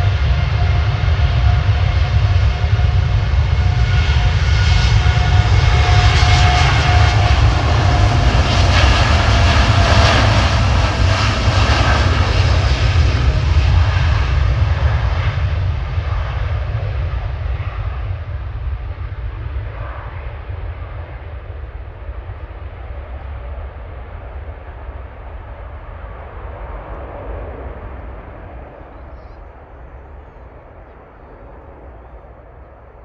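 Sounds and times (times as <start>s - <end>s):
jet engines passing: 0.0s - 33.0s.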